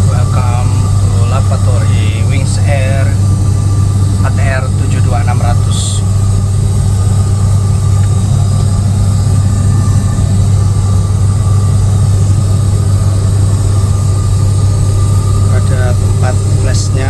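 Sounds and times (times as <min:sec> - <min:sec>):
turboprop engines humming: 0:00.0 - 0:17.0.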